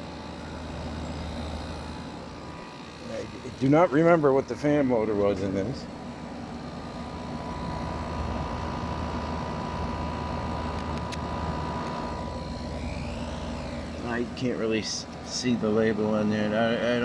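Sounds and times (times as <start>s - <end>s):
air conditioner hum and air rush: 0.0s - 17.0s
faint whine: 0.0s - 17.0s.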